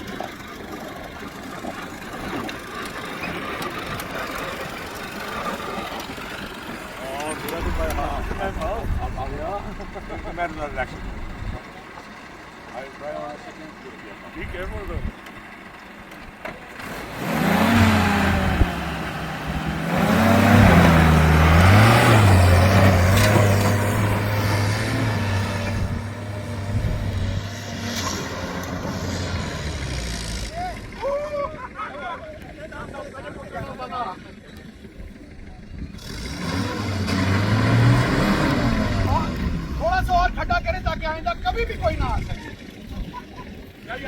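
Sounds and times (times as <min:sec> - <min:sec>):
jeep engine chugging: 0:00.0 - 0:44.0.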